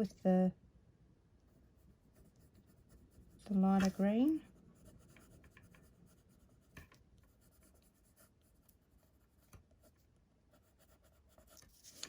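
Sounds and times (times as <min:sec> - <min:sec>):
pencil scratching on cardstock: 0:01.8 - 0:12.0.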